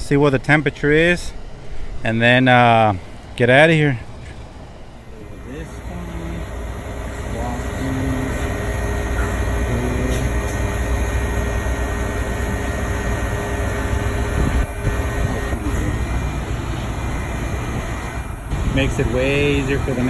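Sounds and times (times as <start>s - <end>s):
condensing unit fan and compressor: 0.0s - 20.0s
faint steady hum: 0.0s - 20.0s.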